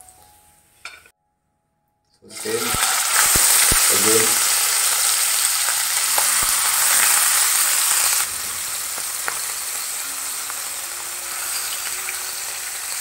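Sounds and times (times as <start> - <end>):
fish sizzling in hot oil: 2.3 - 13.0.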